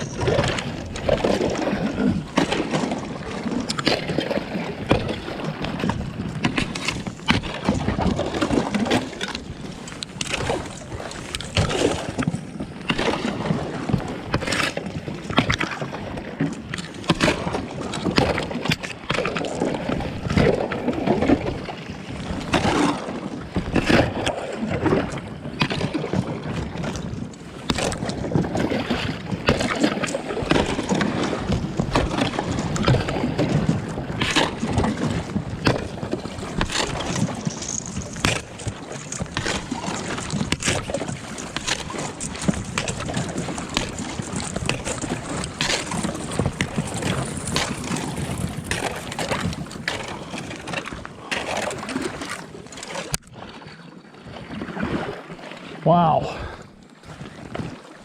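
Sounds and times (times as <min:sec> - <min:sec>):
thin ice cracking against a boat: 0:00.0 - 0:21.4, 0:22.4 - 0:23.1, 0:23.7 - 0:53.3
paddle strokes: 0:00.0 - 0:58.0
water sloshing: 0:00.0 - 0:58.0.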